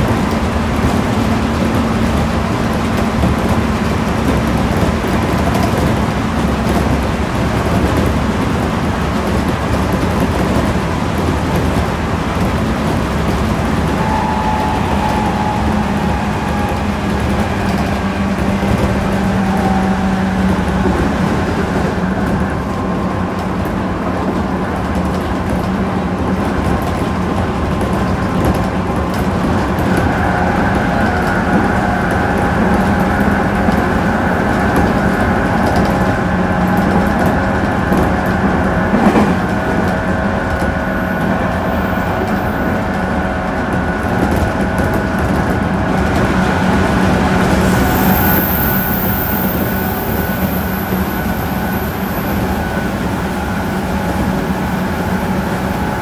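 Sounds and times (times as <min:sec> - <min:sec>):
train car equipment hum: 0:00.0 - 0:56.0.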